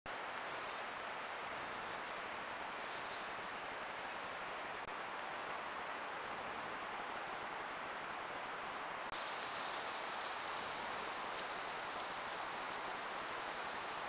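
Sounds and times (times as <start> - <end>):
microphone hiss: 0.1 - 14.0.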